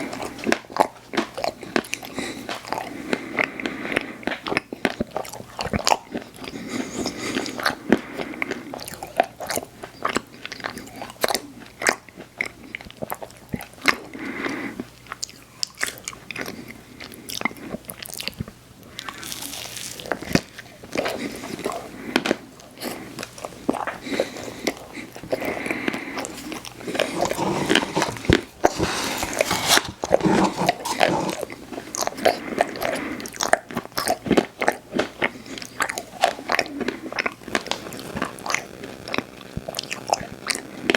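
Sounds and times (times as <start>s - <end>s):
person biting and chewing dessert: 0.0s - 40.9s.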